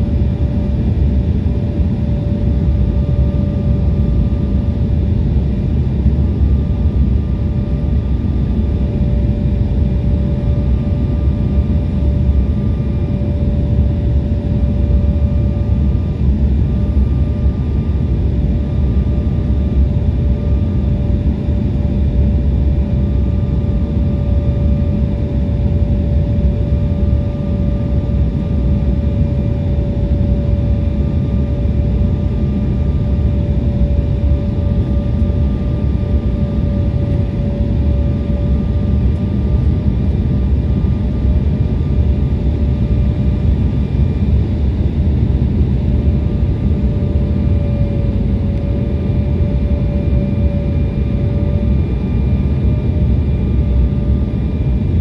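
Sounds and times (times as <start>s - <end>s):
airplane cabin roar: 0.0s - 55.0s.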